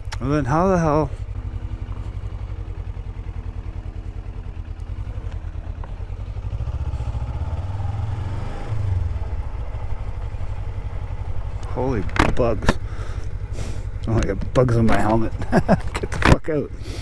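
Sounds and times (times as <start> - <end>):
motorcycle engine idling: 0.0 - 17.0
motorcycle pulling away: 0.4 - 17.0.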